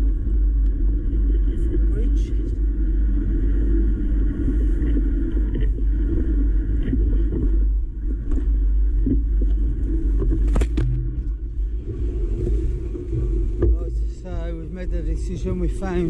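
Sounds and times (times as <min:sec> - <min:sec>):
bike frame and tyre rumble: 0:00.0 - 0:16.0.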